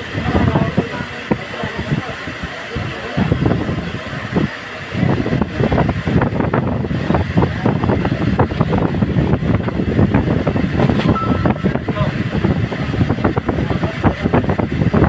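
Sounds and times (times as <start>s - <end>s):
fan air buffeting microphone: 0.0s - 15.0s.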